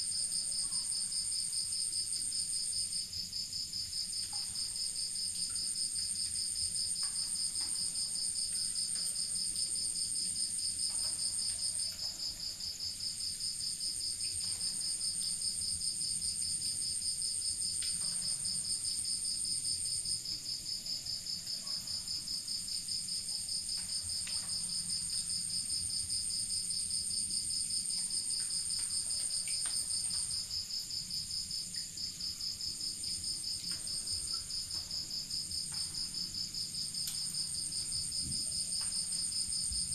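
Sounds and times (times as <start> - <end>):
high steady insect trill: 0.0 - 39.9.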